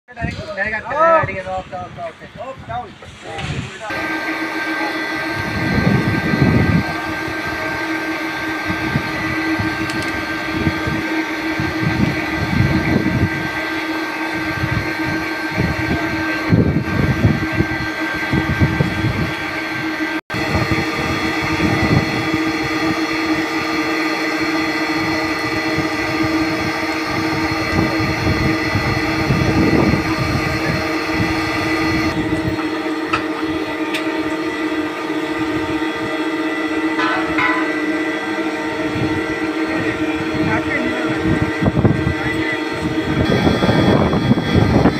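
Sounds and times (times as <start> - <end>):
machine hum: 3.8 - 44.9.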